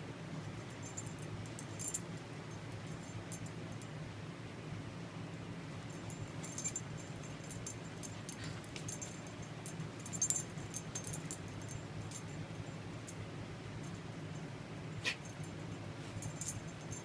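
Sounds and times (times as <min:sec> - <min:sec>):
steady low hum: 0:00.0 - 0:17.0
dog collar tags jingling: 0:00.4 - 0:03.9, 0:05.8 - 0:14.5, 0:15.2 - 0:17.0.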